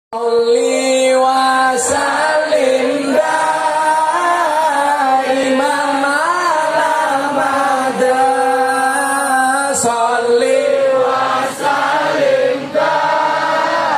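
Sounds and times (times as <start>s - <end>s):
devotional chant over loudspeaker: 0.2s - 13.9s.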